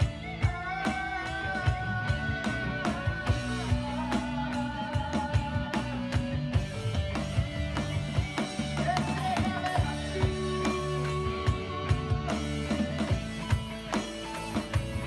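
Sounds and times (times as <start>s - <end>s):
electronic drum beat: 0.0s - 15.0s
guitar sustained notes: 0.0s - 15.0s.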